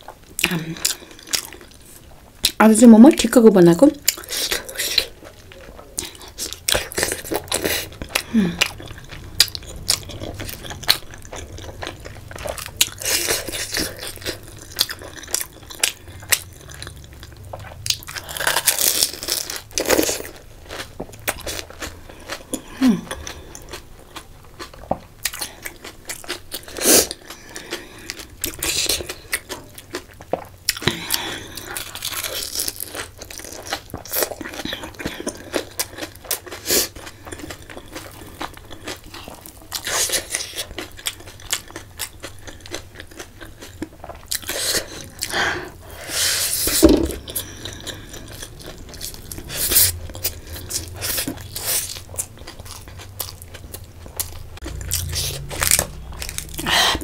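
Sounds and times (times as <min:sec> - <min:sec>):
person crunching and chewing food: 0:00.0 - 0:03.2, 0:03.8 - 0:57.0.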